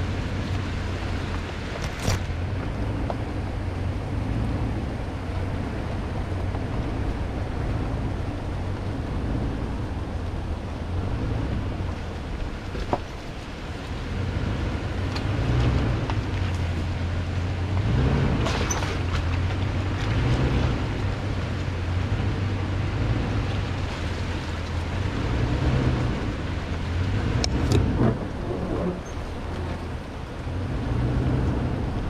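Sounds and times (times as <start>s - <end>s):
truck engine at low revs: 0.0s - 32.0s.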